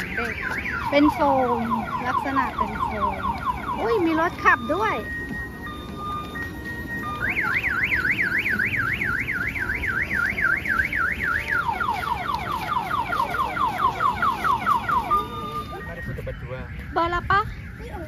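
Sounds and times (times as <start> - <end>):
toy car electronic siren: 0.0 - 18.0.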